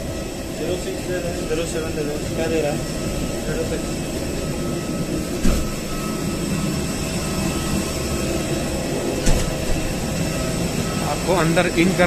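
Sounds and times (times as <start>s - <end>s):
airliner engine rumble and hum: 0.0s - 12.0s
faint steady whine: 0.0s - 12.0s.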